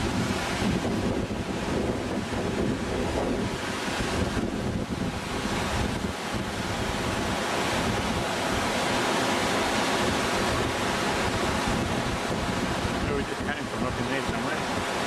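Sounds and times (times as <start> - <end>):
water rushing over boulders: 0.0 - 15.0.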